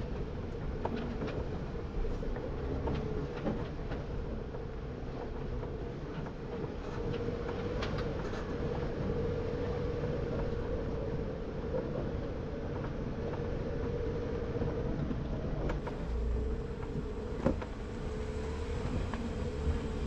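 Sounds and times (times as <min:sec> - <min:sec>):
engine running with whine: 0:00.0 - 0:20.0.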